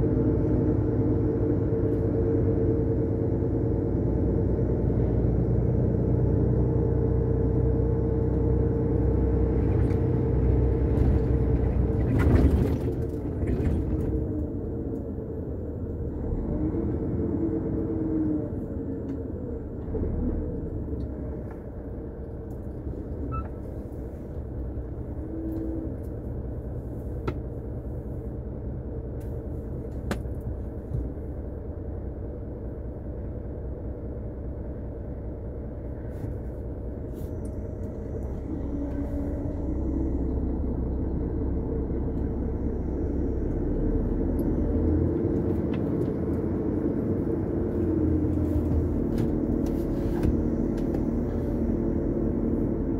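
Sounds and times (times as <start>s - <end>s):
diesel truck engine rumbling: 0.0s - 52.9s.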